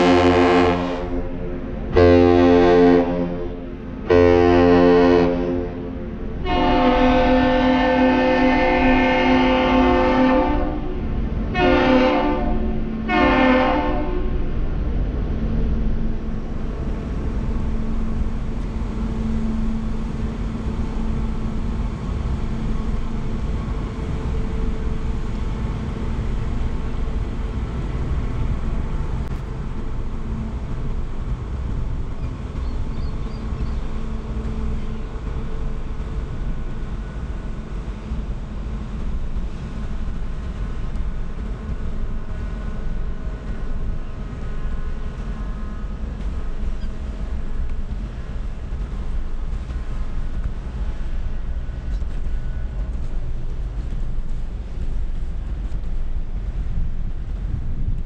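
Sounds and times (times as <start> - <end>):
low rumble of ship engines: 0.0 - 58.0.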